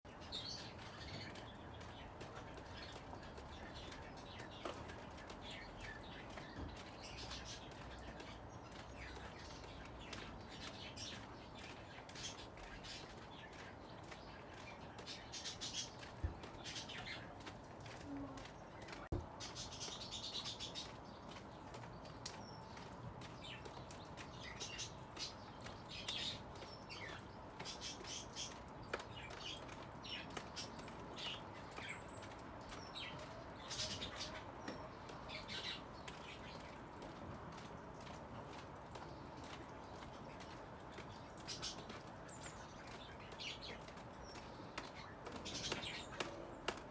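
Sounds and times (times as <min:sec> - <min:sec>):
birds chirping: 0:00.1 - 0:46.9.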